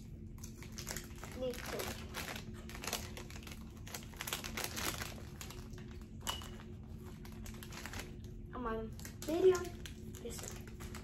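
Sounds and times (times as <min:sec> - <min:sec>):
foil bags crinkling: 0:00.3 - 0:11.0.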